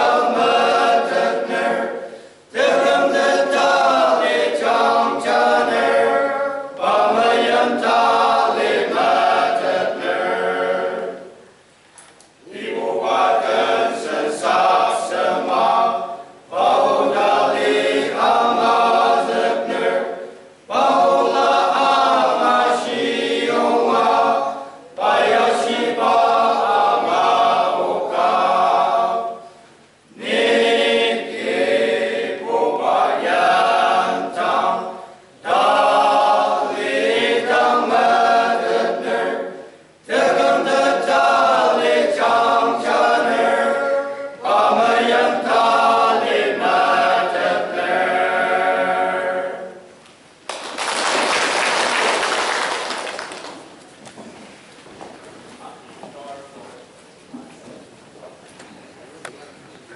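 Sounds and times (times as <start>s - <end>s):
male choir singing a hymn: 0.0s - 11.3s, 12.4s - 29.5s, 30.1s - 49.9s.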